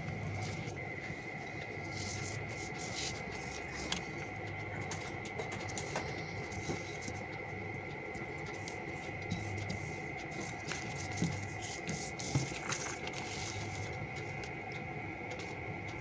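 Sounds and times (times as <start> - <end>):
background hum with high whine: 0.0 - 16.0.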